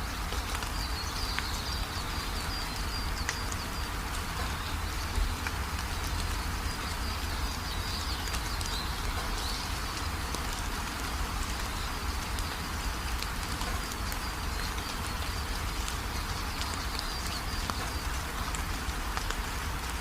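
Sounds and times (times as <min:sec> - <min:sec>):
raindrops ticking: 0:00.0 - 0:20.0
steady rain falling: 0:00.0 - 0:20.0.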